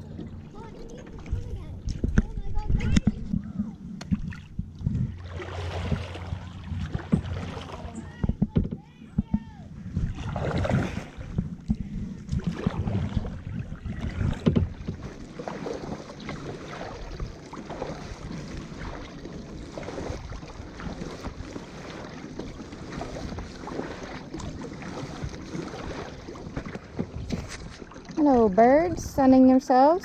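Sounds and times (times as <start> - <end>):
paddle splashes and drips: 0.0 - 28.9
wind rumble on microphone: 0.0 - 29.6.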